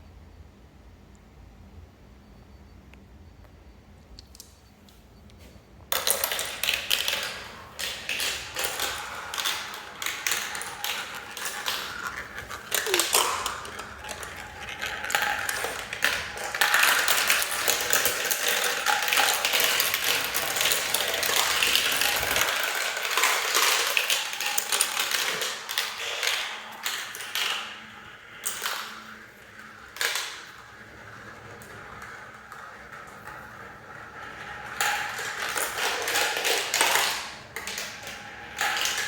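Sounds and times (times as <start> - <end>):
marbles rolling and clattering: 5.9 - 39.0.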